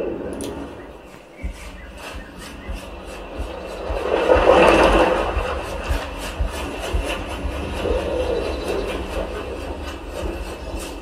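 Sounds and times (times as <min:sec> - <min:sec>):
deep bass rumble: 0:00.0 - 0:10.8
noisy wash with crackles: 0:00.0 - 0:11.0.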